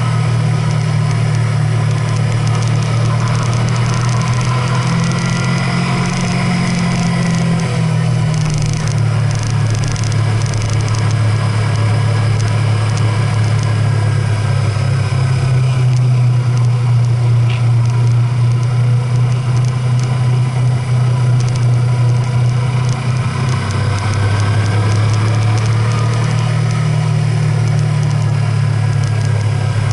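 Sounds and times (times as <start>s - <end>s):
road noise: 0.0s - 29.9s
vehicle engine droning: 0.0s - 29.9s.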